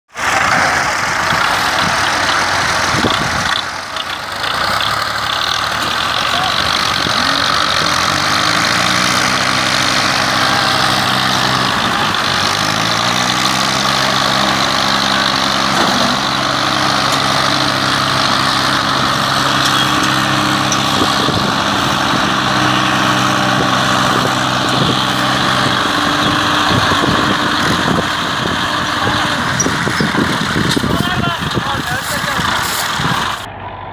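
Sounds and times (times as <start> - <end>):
tractor diesel engines revving: 0.1 - 33.9.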